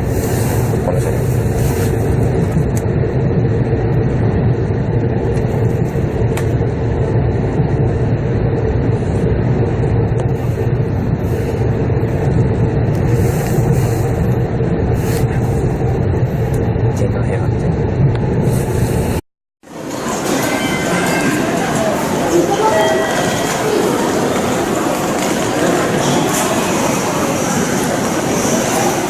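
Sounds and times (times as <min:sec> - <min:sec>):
train cabin low rumble: 0:00.0 - 0:29.0.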